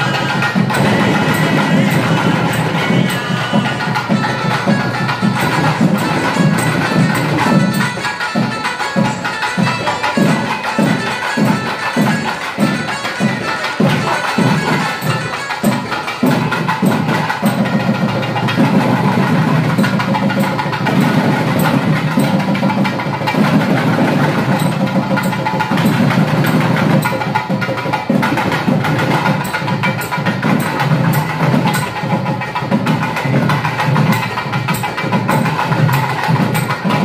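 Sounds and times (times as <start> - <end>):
fast drum strokes: 0.0 - 37.0
reedy wind instrument: 0.0 - 37.0.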